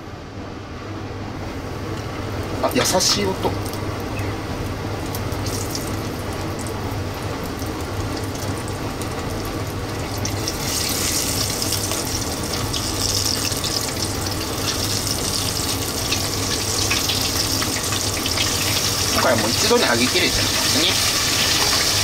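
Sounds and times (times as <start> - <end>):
battered pieces deep-frying in oil: 2.0 - 22.0.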